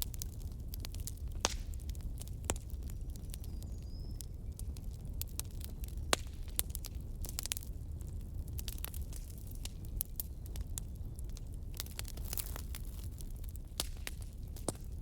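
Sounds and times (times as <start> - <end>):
logs crackling and popping: 0.0 - 15.0
low fire rumble: 0.0 - 15.0.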